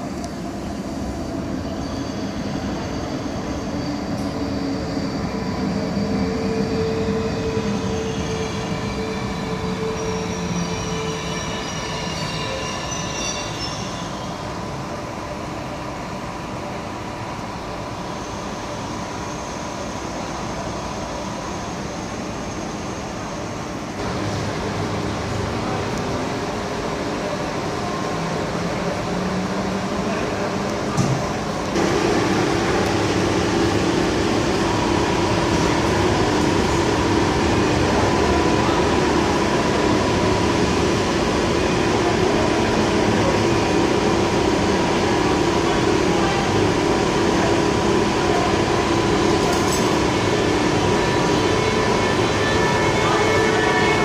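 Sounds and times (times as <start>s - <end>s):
electric train humming: 0.0s - 54.0s.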